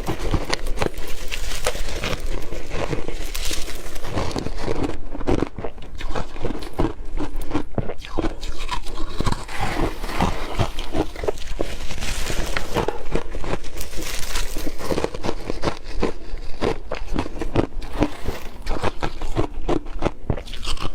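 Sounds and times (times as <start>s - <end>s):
crushed ice being chewed: 0.0s - 20.9s.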